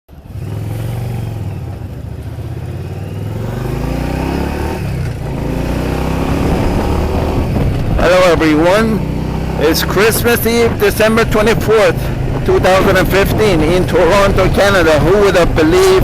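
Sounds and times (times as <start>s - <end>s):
motorcycle engine accelerating: 0.1s - 16.0s.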